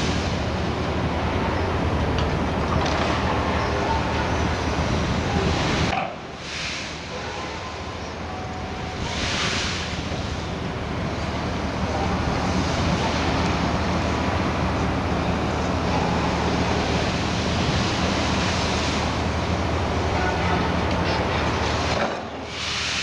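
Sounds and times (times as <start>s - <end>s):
diesel engine humming: 0.0s - 22.9s.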